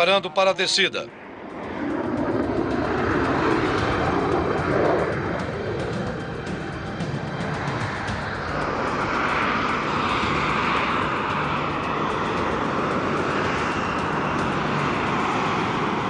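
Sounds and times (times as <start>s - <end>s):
jet engine at high thrust: 0.0s - 16.0s.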